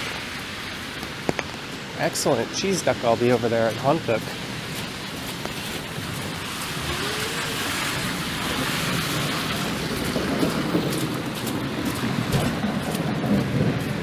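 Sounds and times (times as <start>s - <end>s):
car tyres hissing on wet road: 0.0s - 14.0s
wind buffeting microphone: 0.0s - 14.0s.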